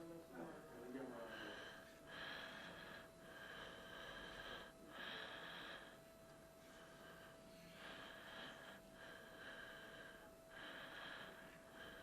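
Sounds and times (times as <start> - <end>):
faint steady hum: 0.0 - 12.0
breathing through the nose: 1.3 - 12.0.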